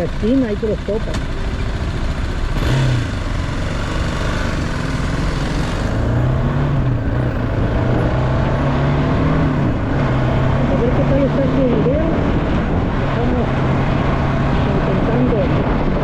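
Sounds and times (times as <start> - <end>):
motorcycle engine revving: 0.0 - 16.0
road noise: 0.0 - 16.0.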